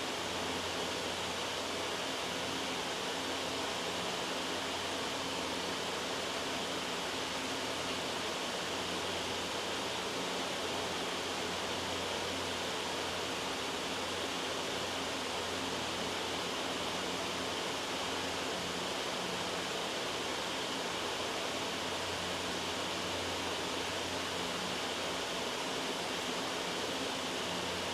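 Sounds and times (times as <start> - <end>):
loud white noise hiss: 0.0 - 27.9.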